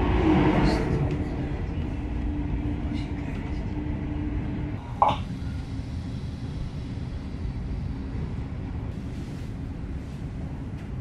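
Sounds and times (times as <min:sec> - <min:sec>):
steady low hum: 0:00.0 - 0:11.0
train rumbling: 0:00.0 - 0:11.0.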